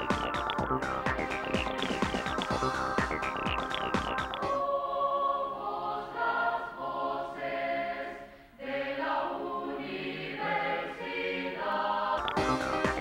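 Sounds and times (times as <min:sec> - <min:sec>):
choir-like voices in music: 0:00.0 - 0:13.0.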